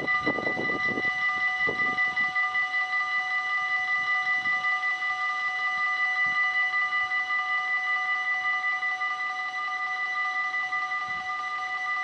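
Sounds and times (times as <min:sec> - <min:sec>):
level crossing warning bell: 0:00.0 - 0:12.0.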